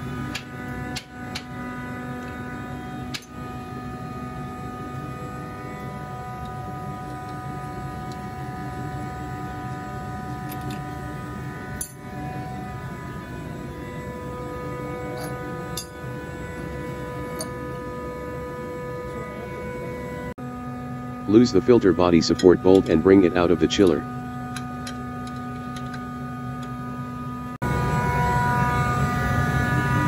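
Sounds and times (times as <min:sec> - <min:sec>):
steady machinery hum: 0:00.0 - 0:30.0.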